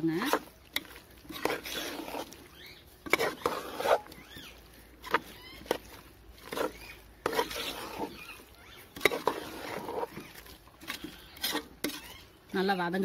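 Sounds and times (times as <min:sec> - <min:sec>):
metal ladle scraping thick mixture: 0:00.0 - 0:13.0.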